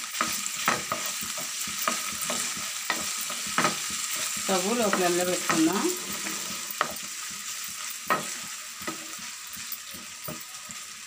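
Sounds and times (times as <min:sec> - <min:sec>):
prawns sizzling in oil: 0:00.0 - 0:11.0
wooden spatula knocking pan: 0:00.2 - 0:07.1, 0:08.0 - 0:10.8.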